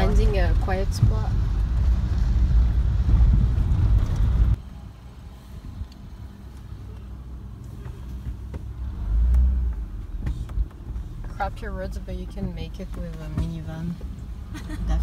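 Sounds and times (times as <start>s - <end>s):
tyres and engine rumbling: 0.0s - 15.0s.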